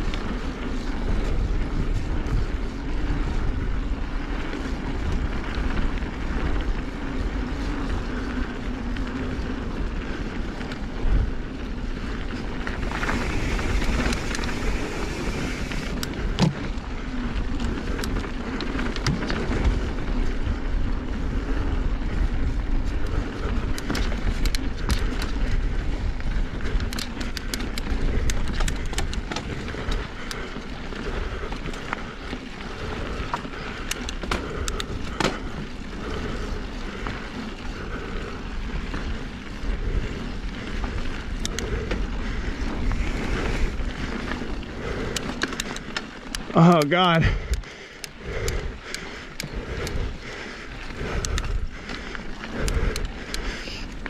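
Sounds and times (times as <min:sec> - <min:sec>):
bike clicks and rattles: 0:00.0 - 0:54.0
tyres on dirt: 0:00.0 - 0:54.0
wind buffeting microphone: 0:00.0 - 0:54.0.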